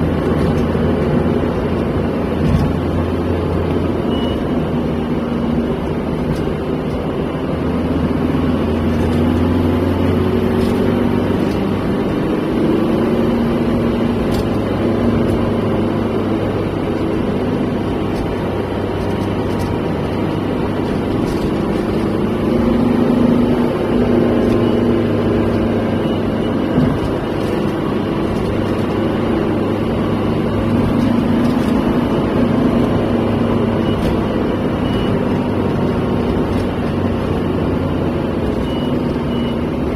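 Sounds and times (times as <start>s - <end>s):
car engine and tyre drone: 0.0s - 39.9s.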